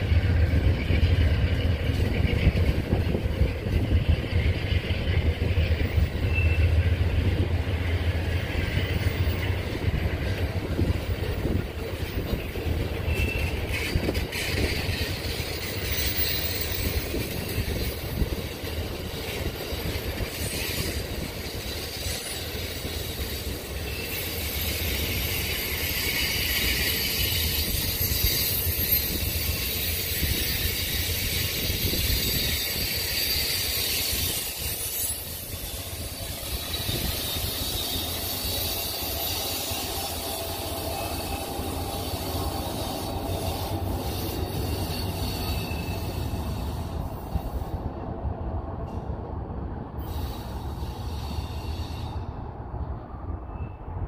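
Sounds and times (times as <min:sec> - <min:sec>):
train wheels rumbling on rails: 0:00.0 - 0:54.0
high wheel squeal: 0:00.4 - 0:07.4, 0:08.2 - 0:47.9, 0:50.0 - 0:52.4.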